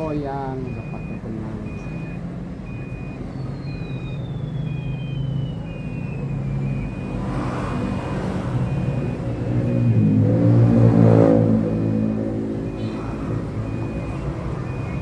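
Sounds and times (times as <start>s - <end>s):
vehicle engine running: 0.0s - 7.2s, 7.8s - 15.0s
reversing beeper: 0.0s - 15.0s.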